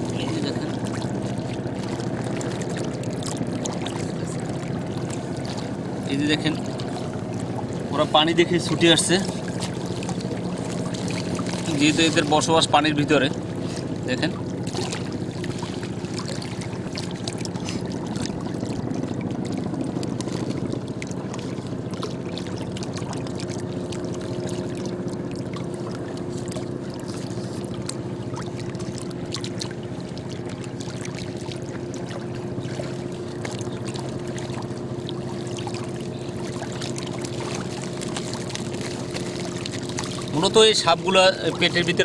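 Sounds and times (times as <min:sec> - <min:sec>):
motor droning: 0:00.0 - 0:42.0
water trickling and lapping: 0:00.0 - 0:42.0.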